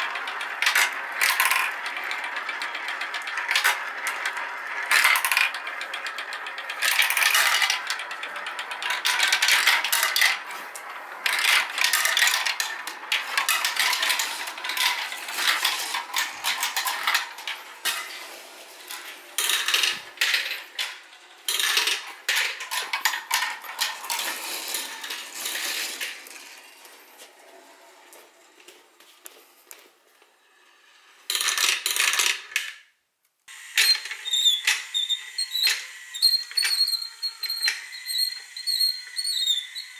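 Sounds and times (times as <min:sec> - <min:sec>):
marbles clattering on plastic track: 0:00.0 - 0:29.4, 0:30.4 - 0:32.9, 0:33.5 - 0:39.9.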